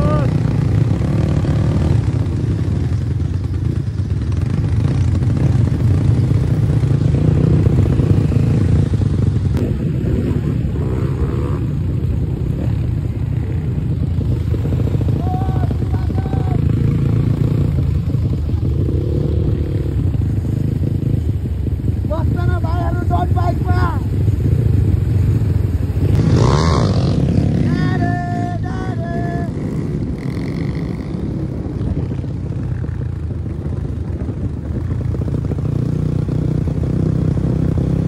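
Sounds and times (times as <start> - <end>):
dirt bike engine running: 0.0 - 38.0
wind rushing over microphone: 0.0 - 38.0.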